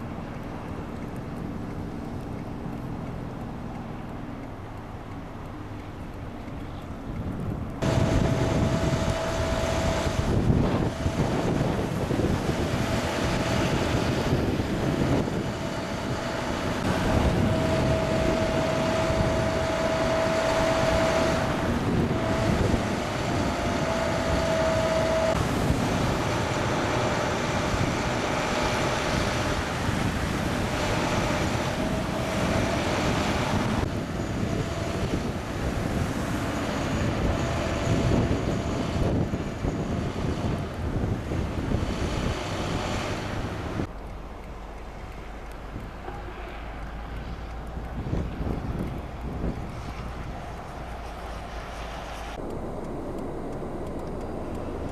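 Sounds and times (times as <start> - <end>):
faint steady whine: 0.0 - 54.9
highway traffic noise: 0.0 - 54.9
wind buffeting microphone: 3.9 - 54.9.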